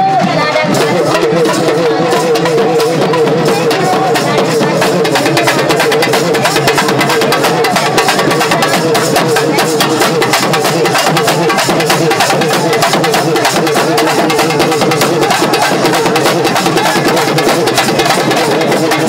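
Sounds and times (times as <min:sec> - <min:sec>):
drum ensemble playing fast rhythm: 0:00.0 - 0:19.0.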